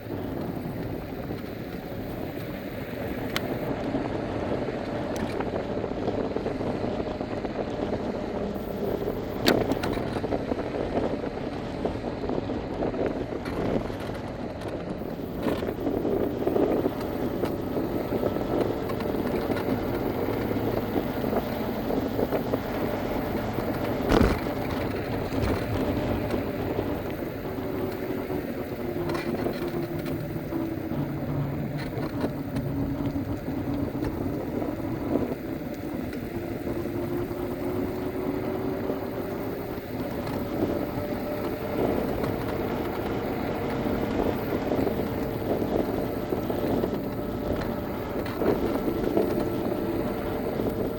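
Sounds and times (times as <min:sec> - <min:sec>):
electric scooter motor whine: 0:00.0 - 0:50.9
wheels rumbling on road: 0:00.0 - 0:50.9.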